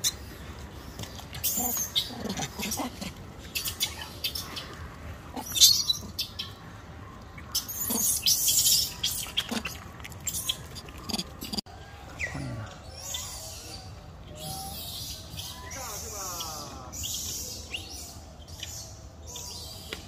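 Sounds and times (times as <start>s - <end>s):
monkeys moving and rustling: 0.0s - 19.9s.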